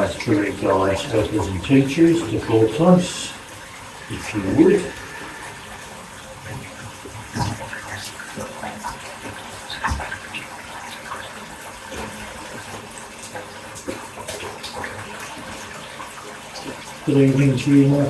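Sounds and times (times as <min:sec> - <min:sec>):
bath tap running water: 0:00.0 - 0:18.0.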